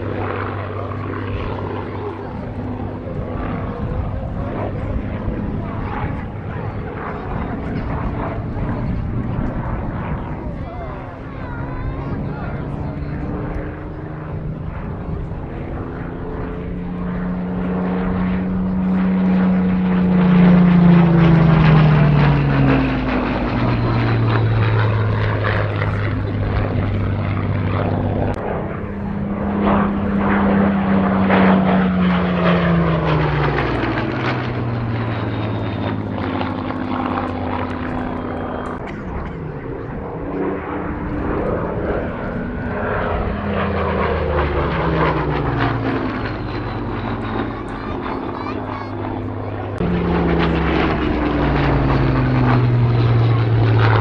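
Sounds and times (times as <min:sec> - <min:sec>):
propeller plane engine drone passing: 0:00.0 - 0:54.0.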